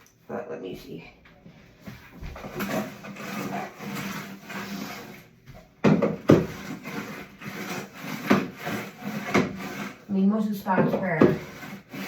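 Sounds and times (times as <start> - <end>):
sweeper rolling over hard floor: 1.8 - 12.0.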